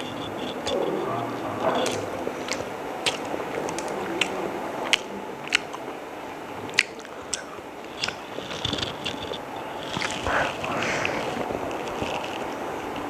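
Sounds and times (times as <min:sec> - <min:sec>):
person chewing crunchy food: 0:00.0 - 0:05.9, 0:06.6 - 0:13.0.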